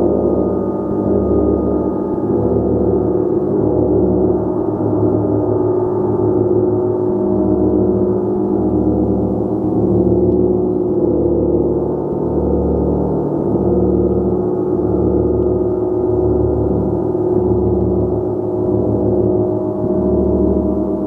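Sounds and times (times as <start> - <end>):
gong sustained wash: 0.0 - 21.0.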